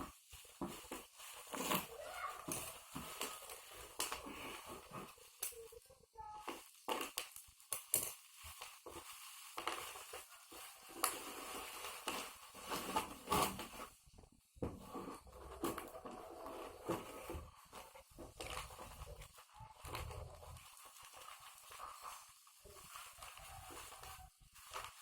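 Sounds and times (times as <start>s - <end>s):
packaging rustling and crinkling: 0.0s - 5.8s, 6.4s - 25.0s.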